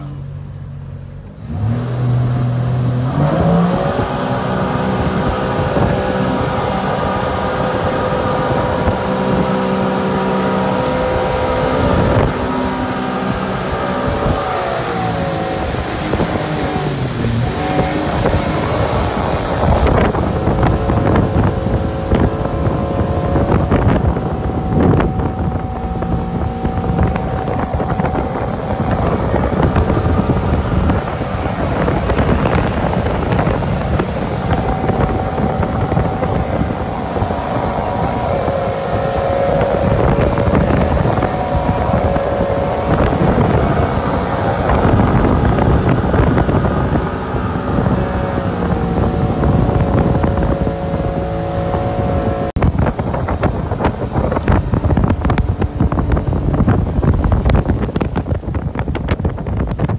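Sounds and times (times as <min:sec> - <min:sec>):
churning wake rushing: 0:00.0 - 0:59.9
motorboat engine drone: 0:00.0 - 0:59.9
wind buffeting microphone: 0:01.5 - 0:59.9.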